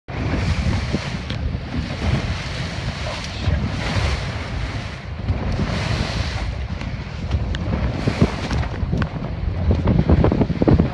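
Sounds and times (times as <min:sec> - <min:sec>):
choppy water splashing past hull: 0:00.1 - 0:10.9
wind buffeting microphone: 0:00.1 - 0:10.9.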